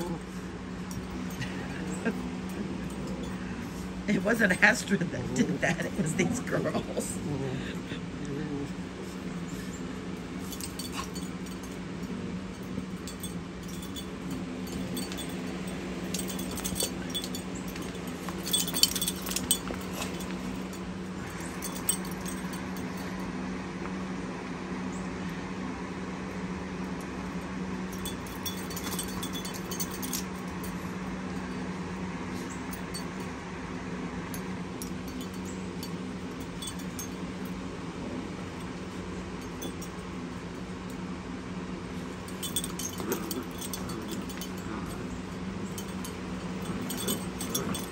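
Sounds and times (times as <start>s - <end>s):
metallic jingling: 0.0s - 7.3s, 8.8s - 23.5s, 27.5s - 33.4s, 34.2s - 47.9s
low mechanical hum: 0.0s - 47.9s.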